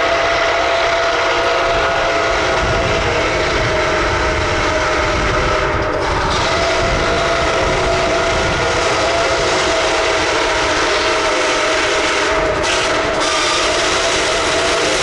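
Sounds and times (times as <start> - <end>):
train rumbling past: 0.0 - 15.0
wheels ringing on rails: 0.0 - 15.0
wind buffeting microphone: 0.0 - 15.0.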